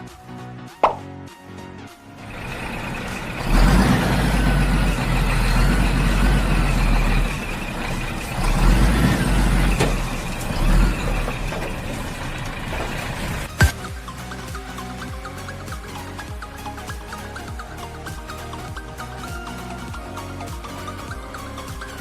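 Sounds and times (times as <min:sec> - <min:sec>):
diesel engine rumble: 0:02.2 - 0:22.0.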